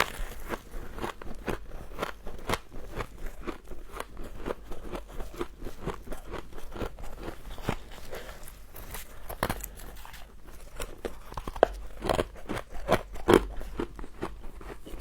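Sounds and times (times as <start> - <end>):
frost being chewed crunching: 0.0 - 15.0.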